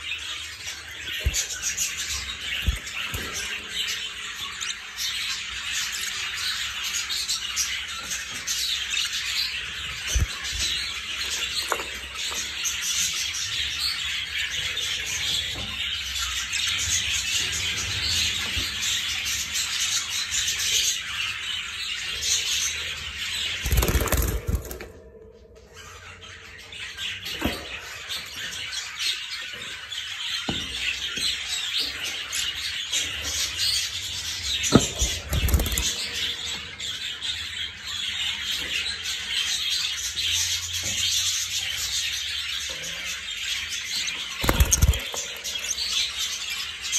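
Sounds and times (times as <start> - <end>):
budgerigars chattering and chirping: 0.0 - 24.8, 25.7 - 46.9.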